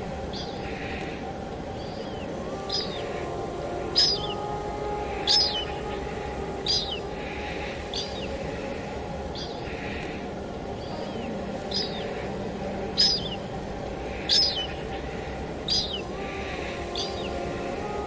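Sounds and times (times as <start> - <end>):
steady rain: 0.0 - 18.0
bird chirping: 0.2 - 18.0.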